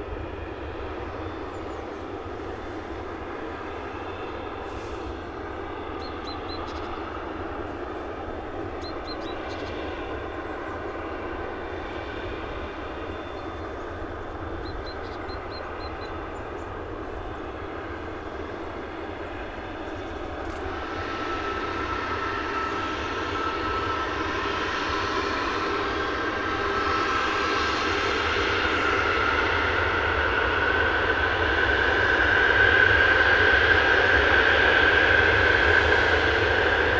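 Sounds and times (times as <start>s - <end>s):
high jet whine: 0.0s - 36.9s
jet engine rush: 0.0s - 36.9s.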